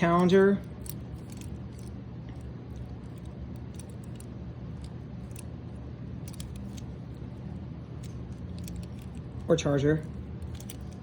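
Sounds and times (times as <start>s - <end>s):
clicks and rattles of handling: 0.0s - 11.0s
steady low hum: 0.0s - 11.0s.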